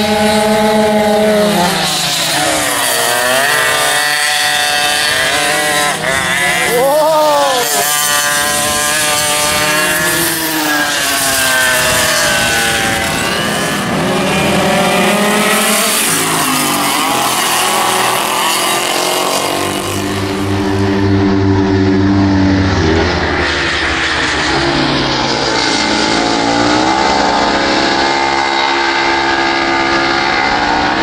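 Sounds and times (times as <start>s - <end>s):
go-kart engines passing: 0.0s - 31.0s.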